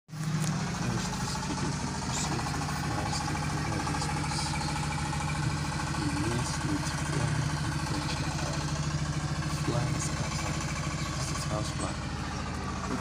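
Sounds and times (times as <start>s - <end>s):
engine humming at idle: 0.1s - 13.0s.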